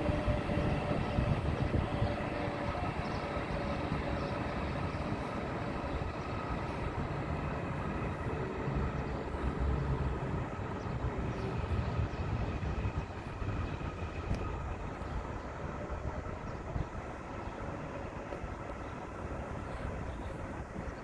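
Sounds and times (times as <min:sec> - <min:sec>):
electric train rumbling on track: 0:00.0 - 0:21.0.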